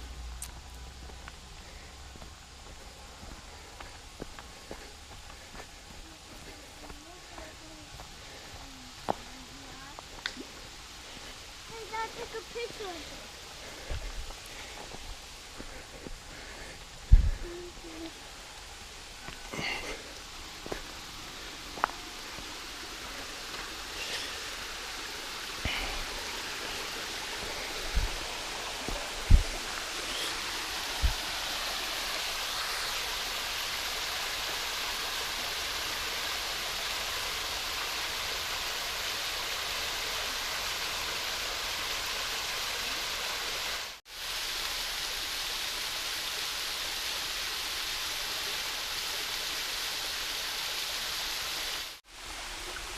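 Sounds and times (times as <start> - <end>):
waterfall rushing: 5.7 - 52.9.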